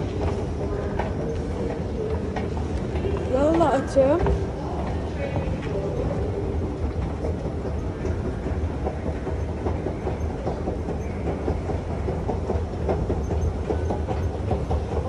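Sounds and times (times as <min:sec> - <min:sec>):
escalator low rumble: 0:00.0 - 0:15.0
escalator steps clattering: 0:00.0 - 0:15.0.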